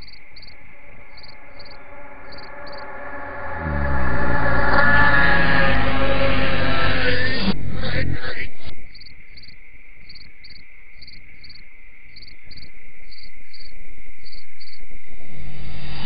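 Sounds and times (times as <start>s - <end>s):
crickets chirping: 0.0s - 6.3s, 8.4s - 16.0s
steady high whine: 0.0s - 13.9s.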